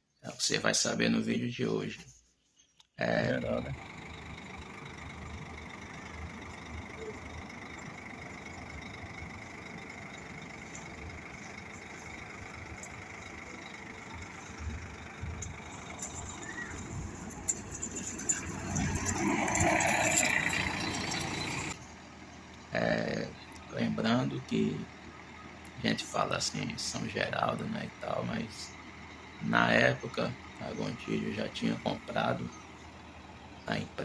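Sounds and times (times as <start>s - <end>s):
diesel coach engine rumbling: 3.0s - 34.0s.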